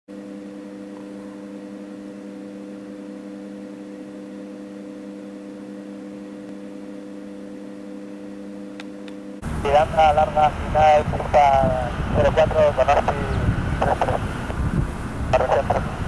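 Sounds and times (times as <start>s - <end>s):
low tonal hum: 0.1s - 16.0s.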